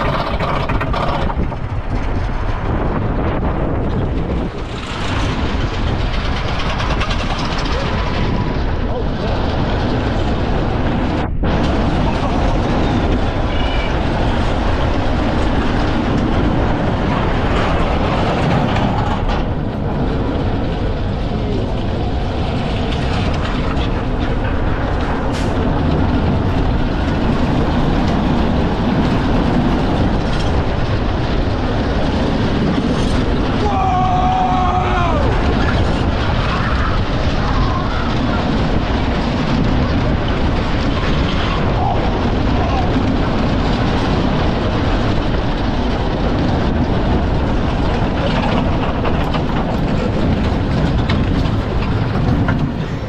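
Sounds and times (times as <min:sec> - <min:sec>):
roller coaster wheels rumbling: 0:00.0 - 0:53.0
wind on camera: 0:00.0 - 0:53.0.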